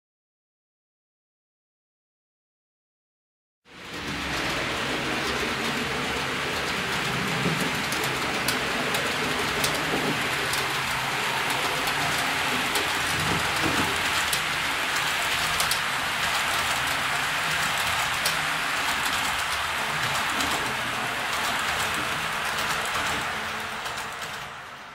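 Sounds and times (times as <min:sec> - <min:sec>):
model train wheels rattling on track: 0:03.8 - 0:24.9.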